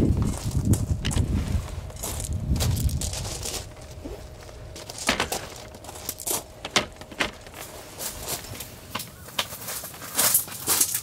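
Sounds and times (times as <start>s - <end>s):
rustling: 0.2s - 11.0s.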